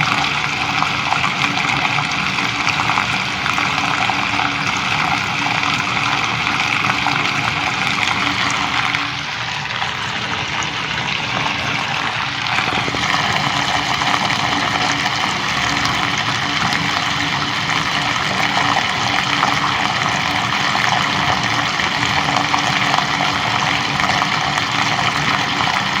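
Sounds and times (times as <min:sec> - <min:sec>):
water rushing out of a pipe: 0:00.0 - 0:26.0.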